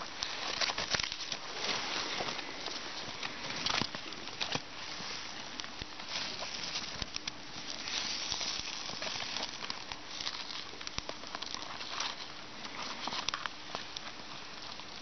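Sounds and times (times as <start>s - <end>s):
bark crackling and rustling: 0.0s - 15.0s.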